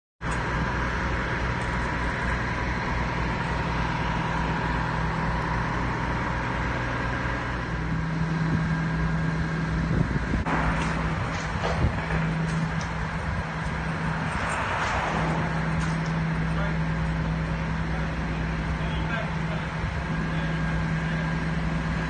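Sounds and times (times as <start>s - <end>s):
hydraulic liftgate hum and whine: 0.2s - 22.0s
low rumble: 0.2s - 22.0s.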